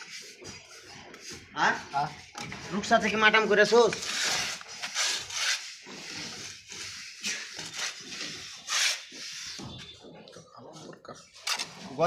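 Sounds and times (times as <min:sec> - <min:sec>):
tool scraping wet mortar: 0:00.0 - 0:10.2.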